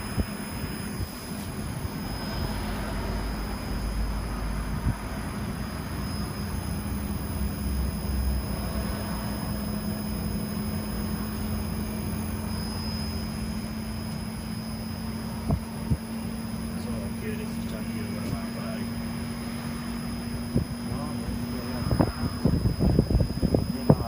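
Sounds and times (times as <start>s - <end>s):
compressor hum: 0.0s - 24.0s
fan noise: 0.0s - 24.0s
low rumble: 0.0s - 24.0s.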